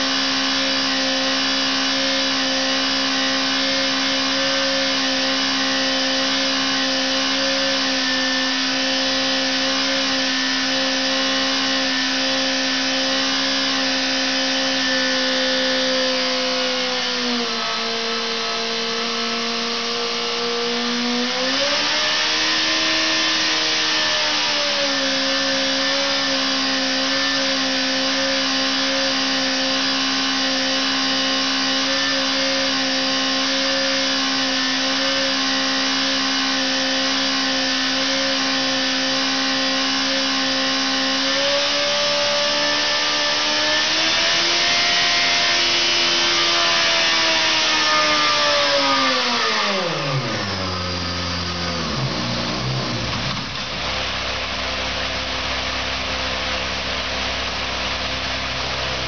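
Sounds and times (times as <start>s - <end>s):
engine running on dynamometer: 0.0s - 59.0s.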